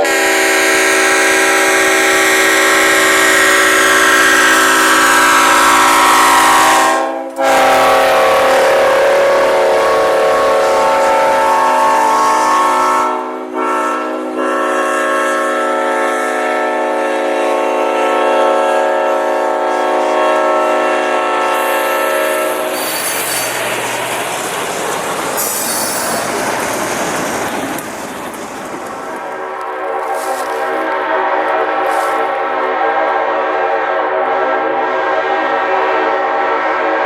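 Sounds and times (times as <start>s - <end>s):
locomotive horn blowing: 0.0s - 23.7s, 29.3s - 37.0s
train rolling past: 0.0s - 37.0s.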